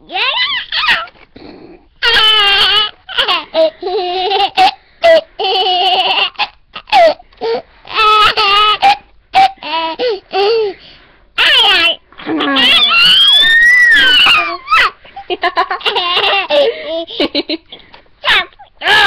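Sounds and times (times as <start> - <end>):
toddler laughing: 2.0 - 10.8, 11.4 - 13.3, 14.0 - 19.0.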